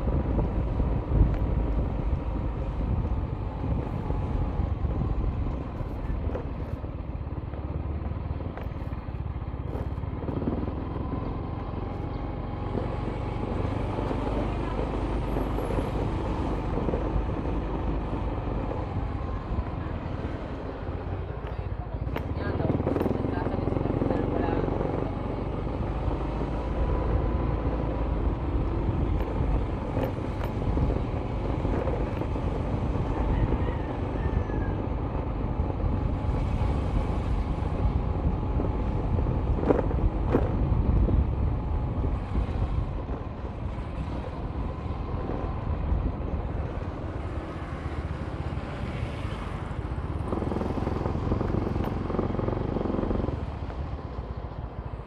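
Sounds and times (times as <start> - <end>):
vehicle driving on concrete road: 0.0 - 55.0.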